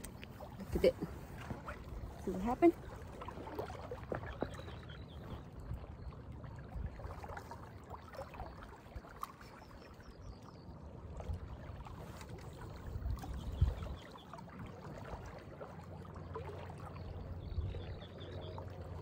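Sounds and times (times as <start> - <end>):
lake water lapping: 0.0 - 19.0.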